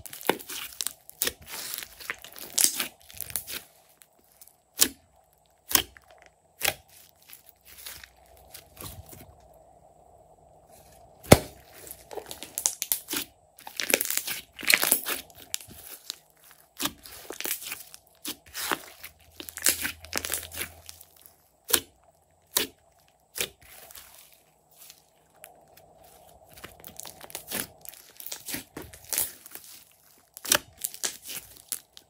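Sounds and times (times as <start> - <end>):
hands squishing slime: 0.0 - 5.0, 5.6 - 9.3, 11.1 - 32.0.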